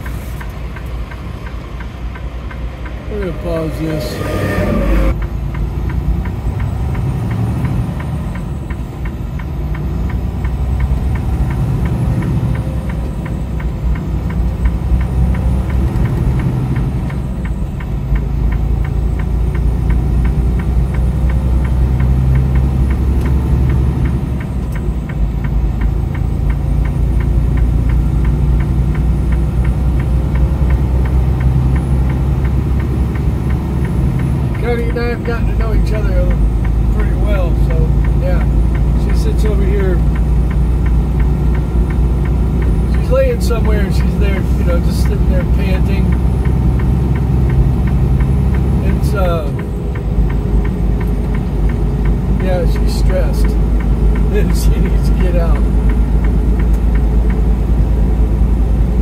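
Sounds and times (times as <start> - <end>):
engine low rumble: 0.0 - 59.0
fast even ticking: 0.4 - 58.7.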